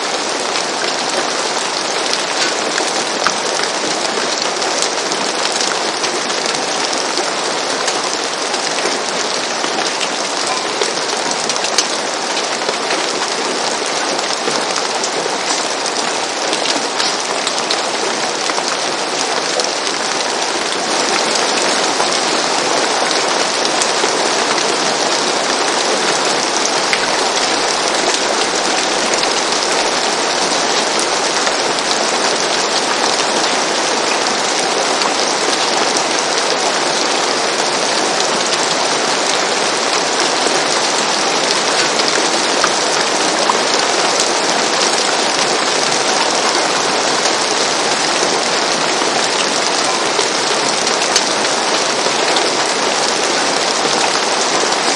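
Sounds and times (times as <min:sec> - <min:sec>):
rain on a roof: 0:00.0 - 0:54.9.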